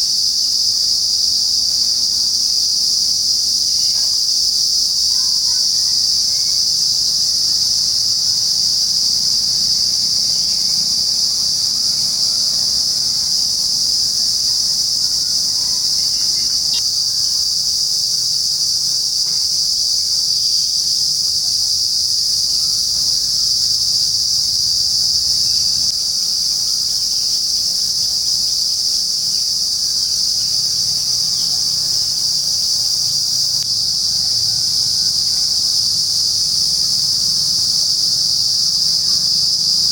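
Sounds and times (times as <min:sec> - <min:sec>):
insects droning high-pitched: 0:00.0 - 0:39.9.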